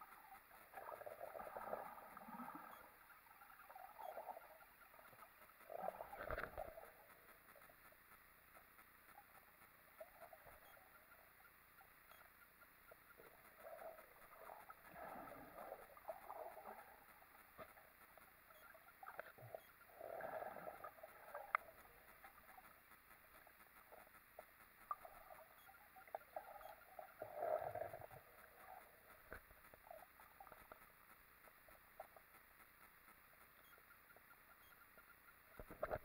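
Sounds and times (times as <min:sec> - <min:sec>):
muffled underwater water moving: 0:00.0 - 0:36.0
small clicks: 0:00.0 - 0:36.0.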